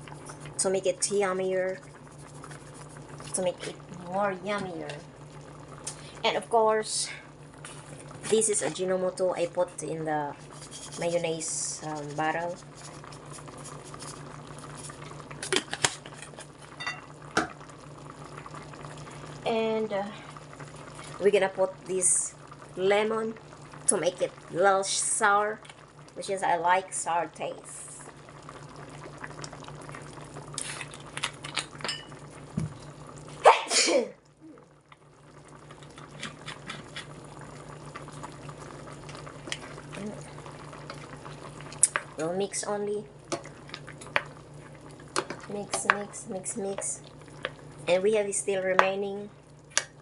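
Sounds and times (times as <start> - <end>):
sauce bubbling in a pot: 0.0 - 50.0.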